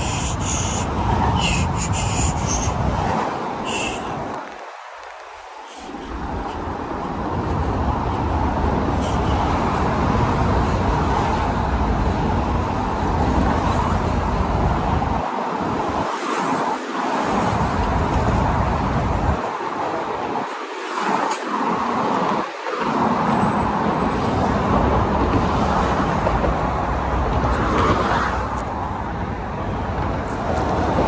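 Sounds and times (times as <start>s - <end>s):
cars driving past: 0.0s - 31.0s.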